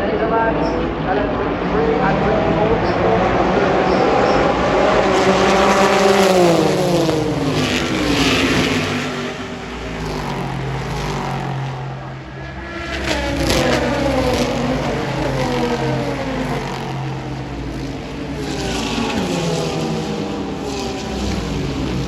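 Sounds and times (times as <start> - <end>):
race cars passing: 0.0 - 22.0.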